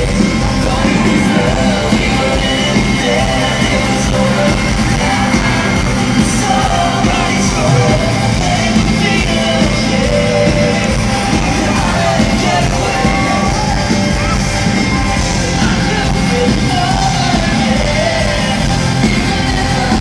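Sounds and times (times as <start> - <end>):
crowd yelling along: 0.0 - 20.0
lead singer through pa: 0.0 - 20.0
live pop-rock band: 0.0 - 20.0.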